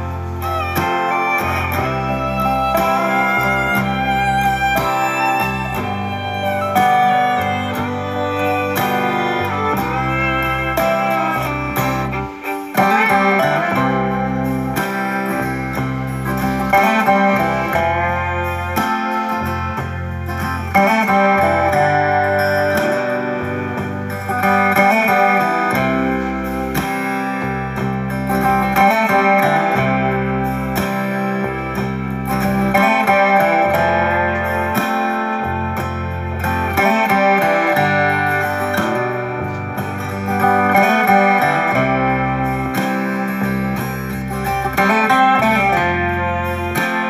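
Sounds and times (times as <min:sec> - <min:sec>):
guitar background music: 0:00.0 - 0:47.0
steady bass line: 0:00.0 - 0:47.0.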